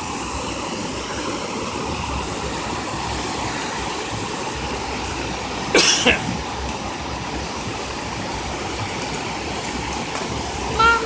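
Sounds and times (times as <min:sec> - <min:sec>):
creek water rushing over concrete: 0:00.0 - 0:11.0.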